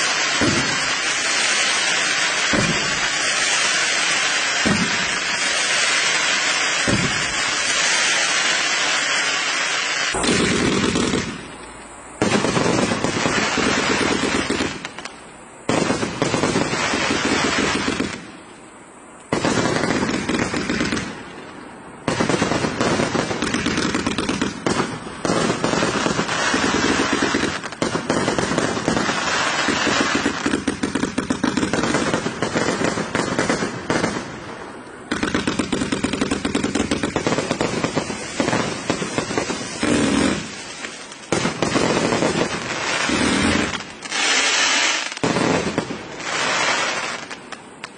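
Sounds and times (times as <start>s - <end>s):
fireworks firing rapid shots: 0.0s - 18.4s, 19.3s - 47.9s.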